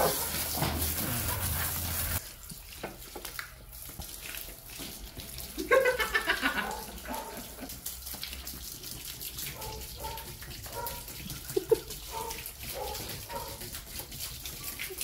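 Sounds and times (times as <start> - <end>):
hose water spraying on car: 0.0 - 15.0.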